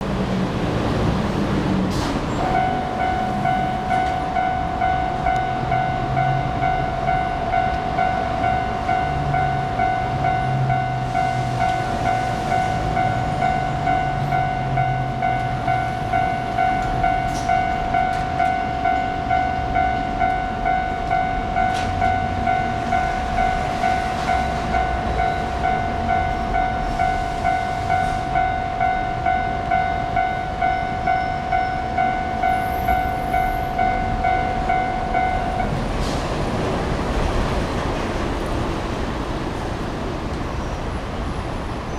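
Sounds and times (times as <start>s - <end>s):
level crossing warning bell: 2.4s - 37.7s.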